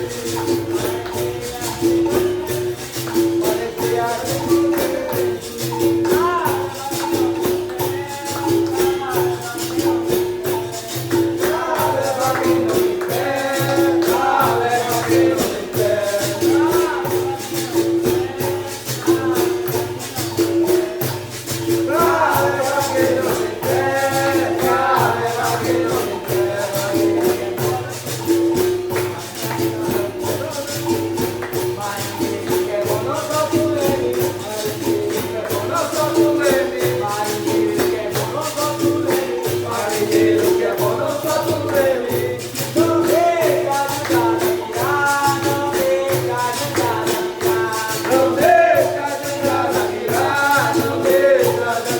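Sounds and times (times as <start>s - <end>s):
pandeiro jingles: 0.0s - 51.9s
people singing: 0.0s - 51.9s
shaker rattling: 0.0s - 51.9s.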